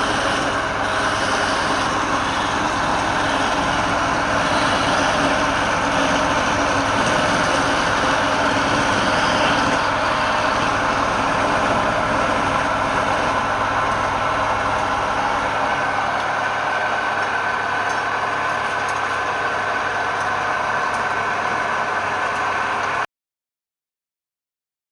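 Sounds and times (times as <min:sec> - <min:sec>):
wood lathe droning: 0:00.0 - 0:23.0.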